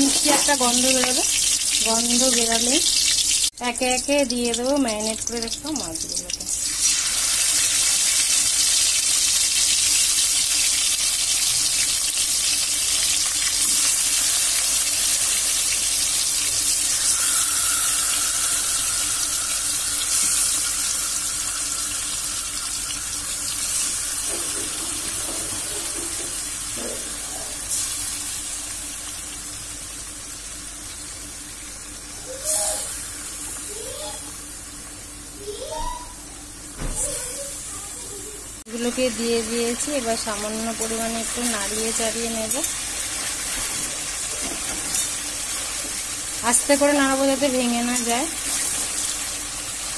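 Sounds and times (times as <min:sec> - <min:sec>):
fish sizzling in hot oil: 0:00.0 - 0:35.8, 0:37.0 - 0:49.9.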